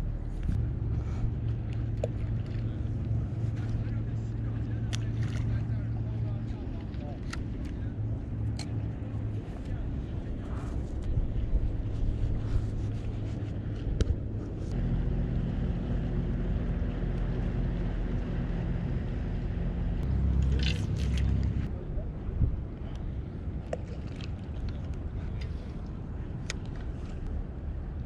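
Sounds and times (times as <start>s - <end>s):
motor engine humming: 0.0s - 28.0s.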